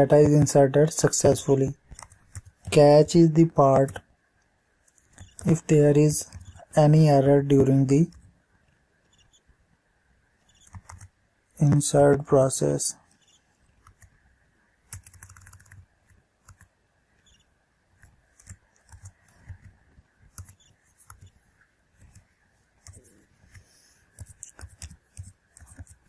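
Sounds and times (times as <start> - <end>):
keyboard typing: 0.0 - 4.0, 4.9 - 8.3, 10.4 - 12.2, 13.1 - 17.4, 18.0 - 26.0.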